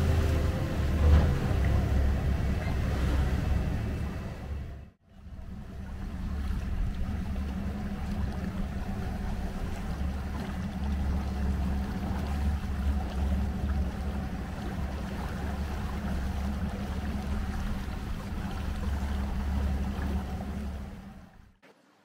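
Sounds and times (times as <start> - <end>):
outboard motors idling: 0.0 - 21.6
water churning: 0.0 - 22.0.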